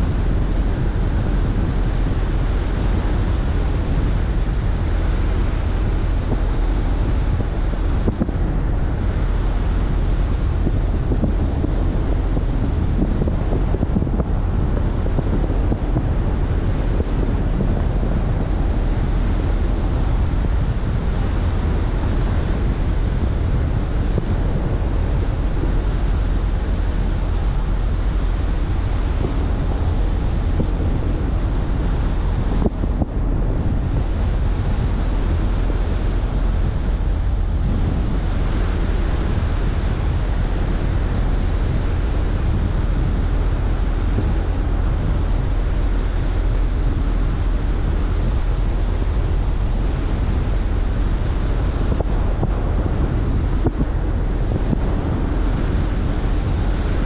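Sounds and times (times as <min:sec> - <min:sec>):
car engine low rumble: 0:00.0 - 0:57.0
road noise: 0:00.0 - 0:57.0
wind on microphone: 0:00.0 - 0:57.0.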